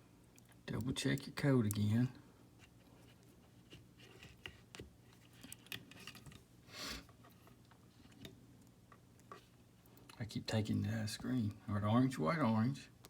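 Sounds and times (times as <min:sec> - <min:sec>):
small clicks and rustles of wires: 0:00.2 - 0:11.4.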